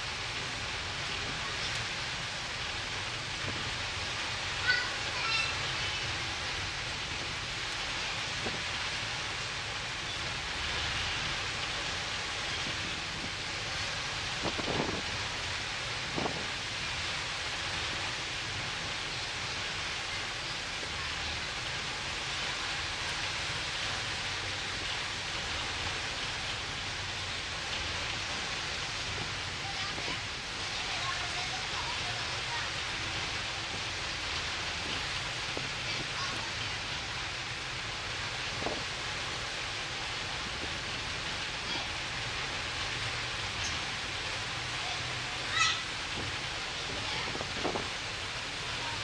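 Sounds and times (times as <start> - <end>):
ferry engine rumble: 0.0 - 49.0
steady rushing noise: 0.0 - 49.0.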